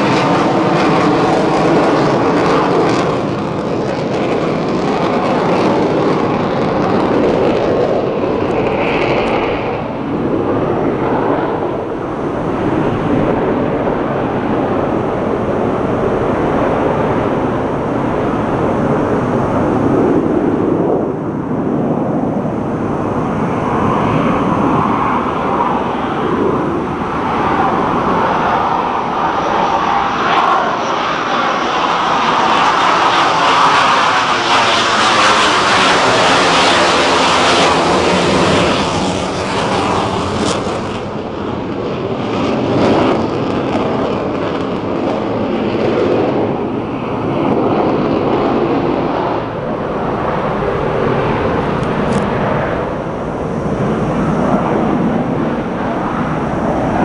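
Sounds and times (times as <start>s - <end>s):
jet aircraft noise: 0.0s - 57.0s.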